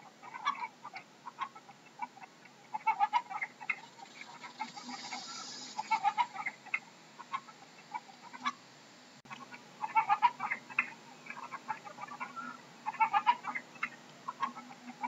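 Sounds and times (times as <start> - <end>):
chicken clucking: 0.0 - 8.6, 9.3 - 15.0.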